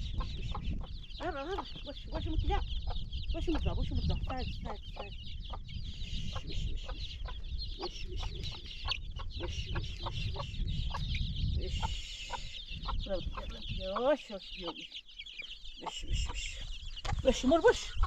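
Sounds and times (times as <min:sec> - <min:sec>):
chickens clucking: 0:00.0 - 0:18.0
high chirping: 0:00.0 - 0:18.0.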